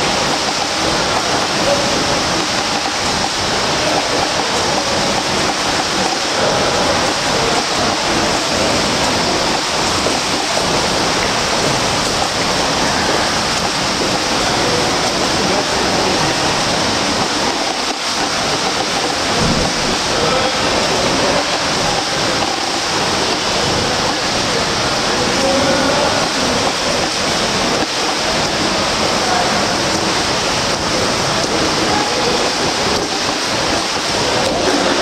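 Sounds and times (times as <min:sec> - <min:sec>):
swimmer splashing pool water: 0:00.0 - 0:35.0.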